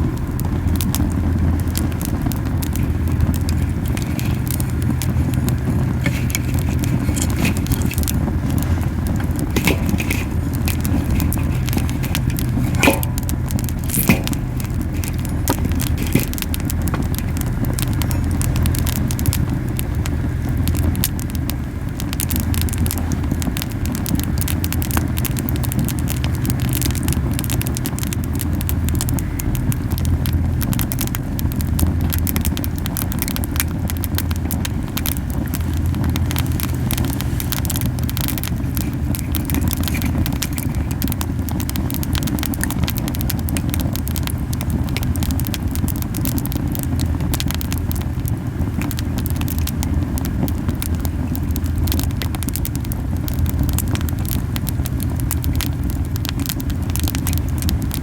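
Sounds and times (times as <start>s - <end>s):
campfire flame rumble: 0.0s - 58.0s
fire pops and crackles: 0.0s - 58.0s.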